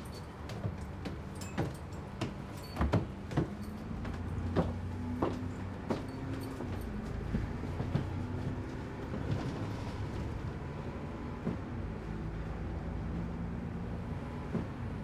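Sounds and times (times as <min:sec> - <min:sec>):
bus engine hum: 0:00.0 - 0:15.0
road rumble: 0:00.0 - 0:15.0.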